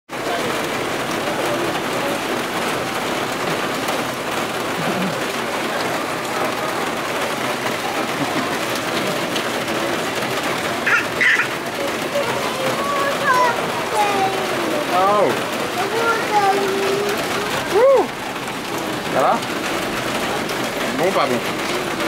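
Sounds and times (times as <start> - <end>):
rain falling on a street: 0.1 - 22.0.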